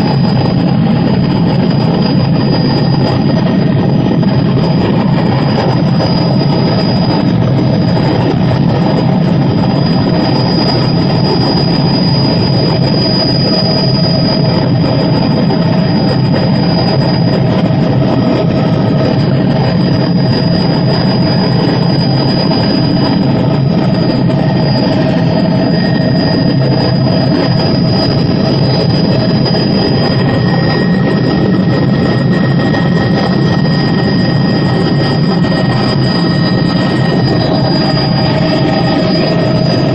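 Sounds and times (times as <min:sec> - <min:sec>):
helicopter engine and rotor drone: 0:00.0 - 0:39.9
thin high whine: 0:00.0 - 0:39.9.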